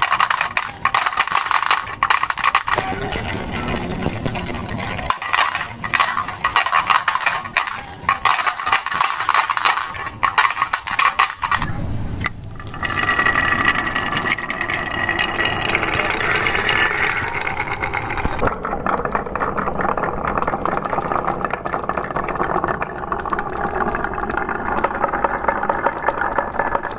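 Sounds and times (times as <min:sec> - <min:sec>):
marbles clattering on wooden track: 0:00.0 - 0:11.7, 0:12.5 - 0:26.9
marbles rolling on wooden rail: 0:00.0 - 0:11.7, 0:12.4 - 0:26.9.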